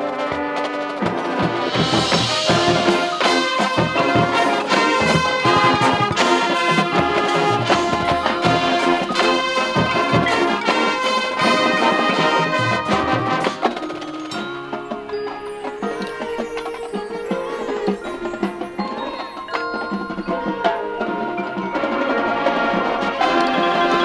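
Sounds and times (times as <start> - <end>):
drum hits: 0.0 - 22.2
marching band brass chords: 0.0 - 24.0
struck percussion notes: 0.0 - 24.0.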